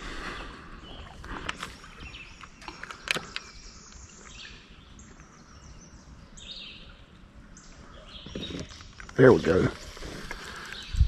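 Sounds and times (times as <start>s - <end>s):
faint birdsong: 0.0s - 11.0s
insect calls: 0.4s - 6.9s, 7.5s - 11.0s.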